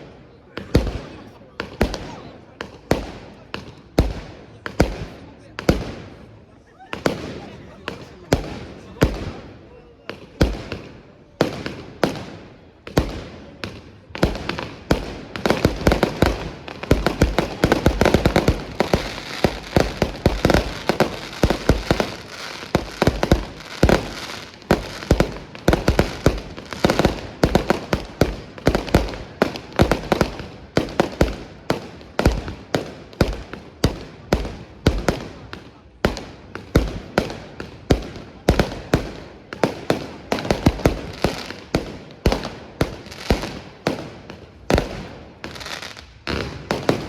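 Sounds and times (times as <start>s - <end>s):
fireworks banging: 0.0s - 47.0s.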